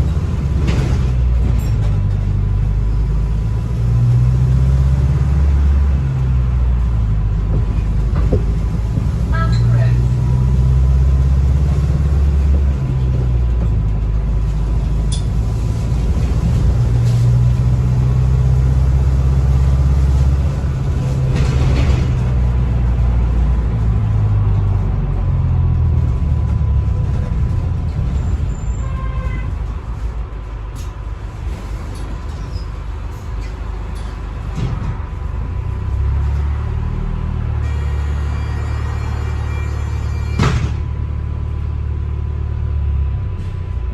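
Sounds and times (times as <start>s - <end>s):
bus engine and road rumble: 0.0s - 43.9s.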